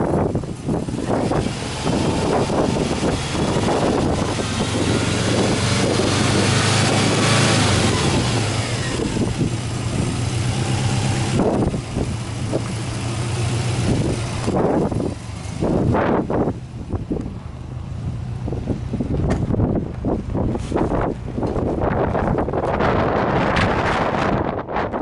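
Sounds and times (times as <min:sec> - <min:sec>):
turbocharged engine revving: 0:00.0 - 0:24.4.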